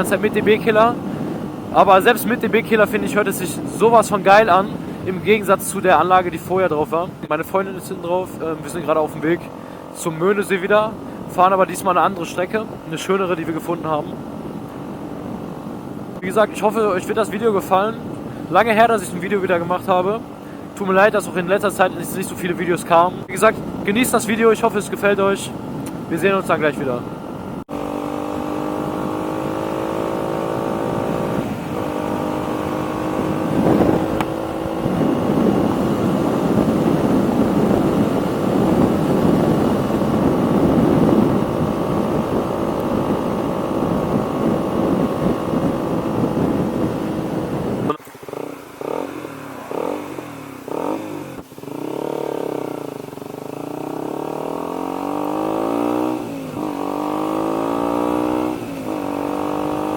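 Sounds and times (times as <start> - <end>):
motorcycle engine: 0.0 - 59.9
wind rumble on microphone: 0.0 - 59.9.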